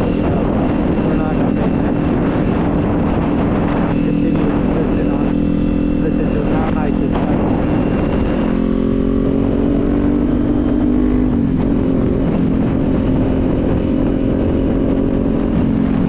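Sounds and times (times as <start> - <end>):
motorcycle engine running: 0.0 - 16.0
wind and road rumble: 0.0 - 16.0.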